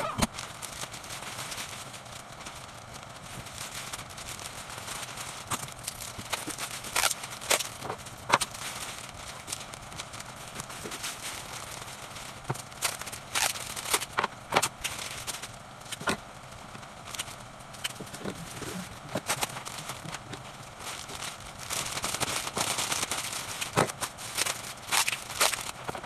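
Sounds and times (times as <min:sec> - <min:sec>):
wrapping paper crinkling: 0:00.0 - 0:26.0.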